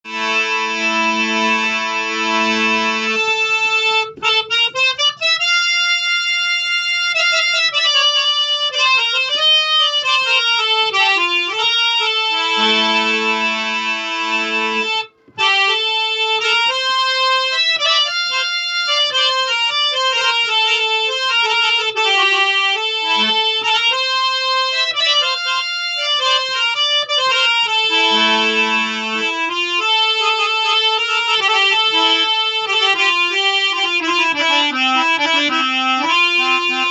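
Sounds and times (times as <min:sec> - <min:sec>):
harmonium melody and chords: 0:00.0 - 0:36.9.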